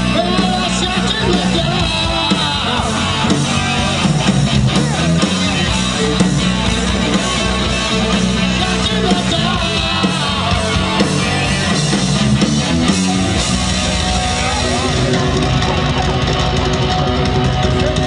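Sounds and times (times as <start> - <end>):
electric guitar: 0.0 - 18.0
heavy rock band playing live: 0.0 - 18.0.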